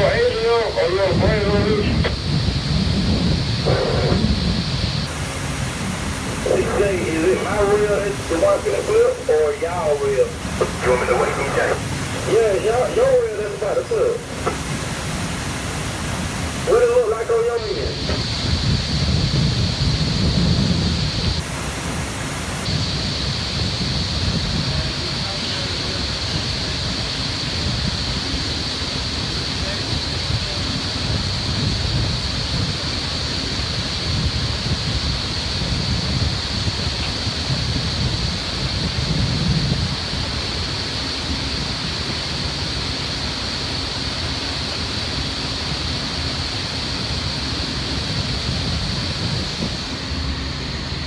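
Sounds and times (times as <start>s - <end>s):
train rumbling and hissing: 0.0s - 51.0s.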